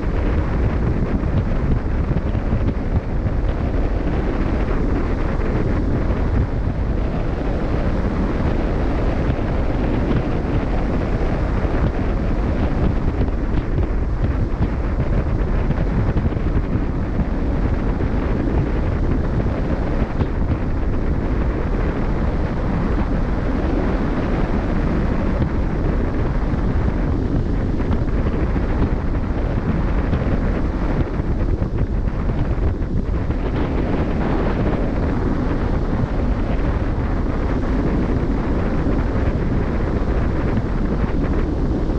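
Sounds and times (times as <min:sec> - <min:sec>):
rush of open sea: 0:00.0 - 0:41.9
wind buffeting microphone: 0:00.0 - 0:41.9.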